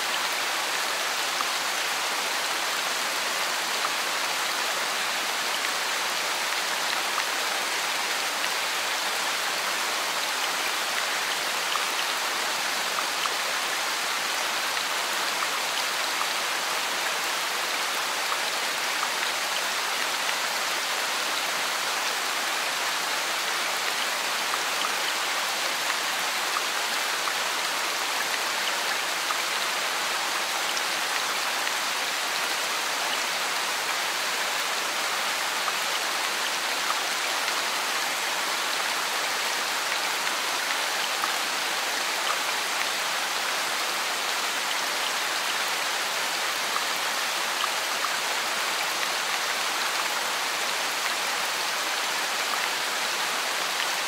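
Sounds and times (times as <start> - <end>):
rain on wet brick paving: 0.0 - 54.0.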